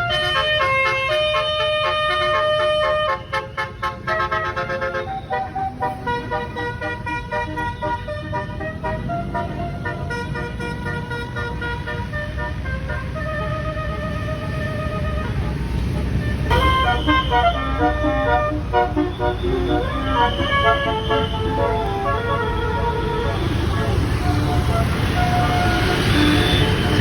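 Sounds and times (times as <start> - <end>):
bus rumbling: 0.0 - 27.0
musical bus horn playing a tune: 0.0 - 27.0.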